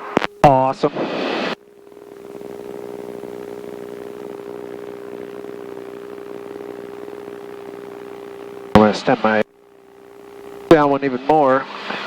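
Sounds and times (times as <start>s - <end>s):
aircraft engine and propeller drone: 0.3s - 12.0s.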